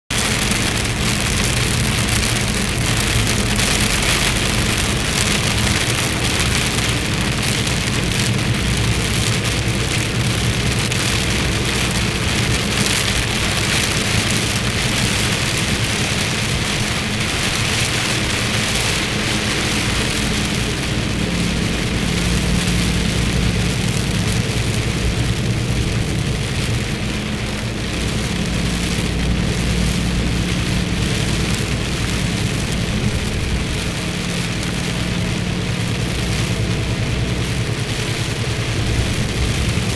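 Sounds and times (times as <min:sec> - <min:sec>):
low engine hum: 0:00.1 - 0:39.9
rain falling: 0:00.1 - 0:39.9.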